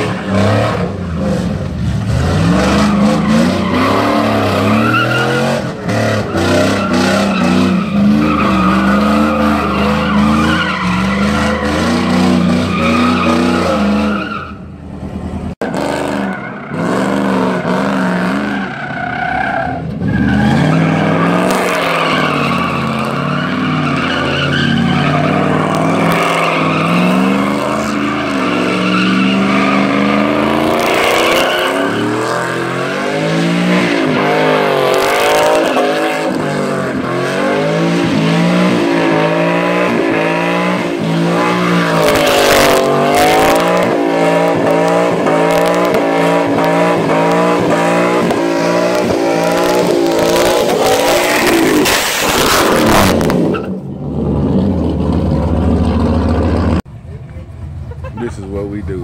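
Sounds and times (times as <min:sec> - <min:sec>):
truck engine revving high: 0:00.0 - 0:56.9
tyres squealing on concrete: 0:02.8 - 0:14.7, 0:16.2 - 0:53.8.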